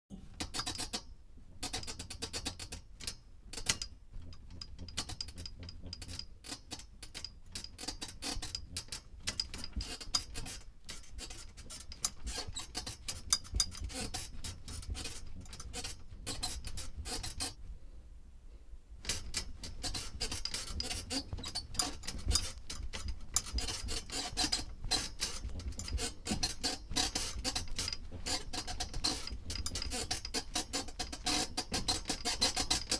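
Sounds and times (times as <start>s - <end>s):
bed springs squeaking: 0.3s - 17.6s, 19.0s - 32.9s.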